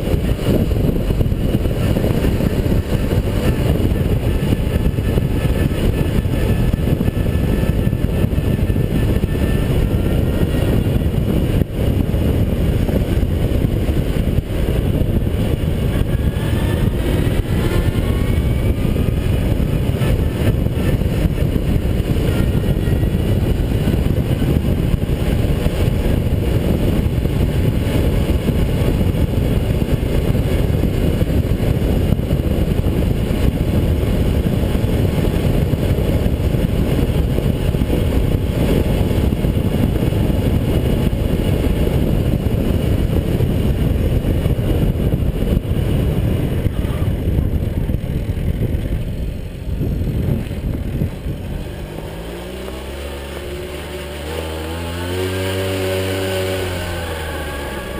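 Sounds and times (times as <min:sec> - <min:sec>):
moped engine running: 0:00.0 - 0:57.9
wind buffeting: 0:00.0 - 0:57.9.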